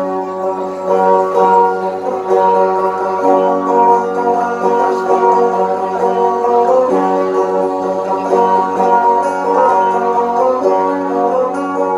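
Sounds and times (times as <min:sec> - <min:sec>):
plucked string melody: 0:00.0 - 0:11.9.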